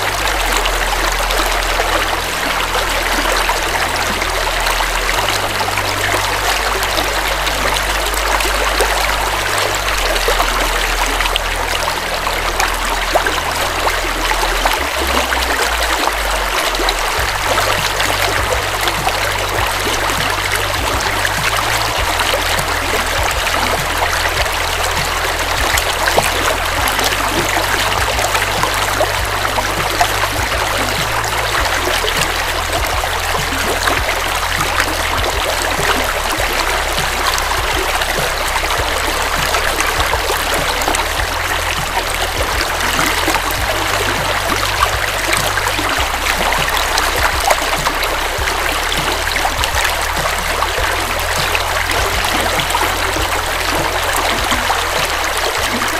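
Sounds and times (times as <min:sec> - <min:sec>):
river water rushing: 0:00.0 - 0:55.9
water splashing and trickling: 0:00.0 - 0:55.9.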